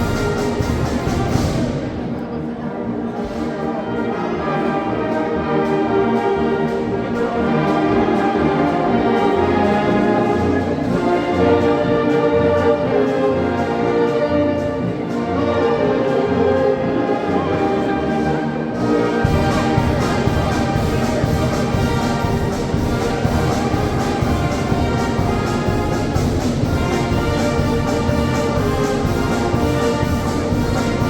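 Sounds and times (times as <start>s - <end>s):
brass and woodwind chords: 0.0s - 31.0s
light percussion: 0.0s - 31.0s.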